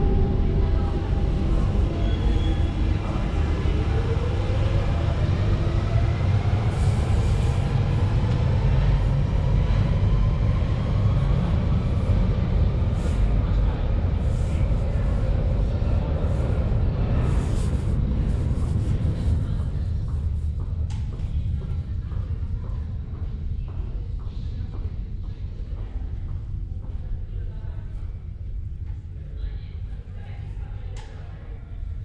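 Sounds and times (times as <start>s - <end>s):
train rumbling through tunnel: 0.0s - 32.0s.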